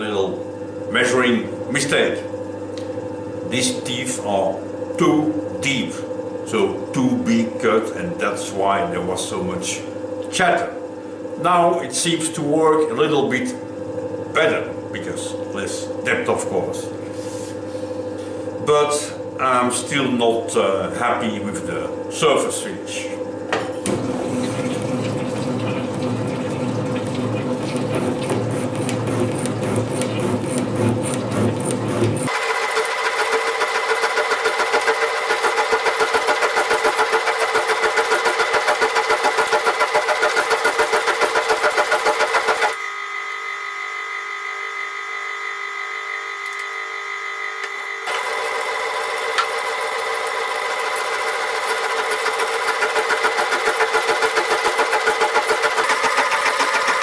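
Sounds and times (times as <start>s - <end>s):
machine whine: 0.0s - 57.0s.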